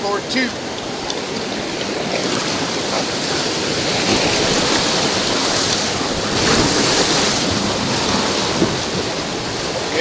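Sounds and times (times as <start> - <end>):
river rapids rushing and splashing: 0.0 - 10.0.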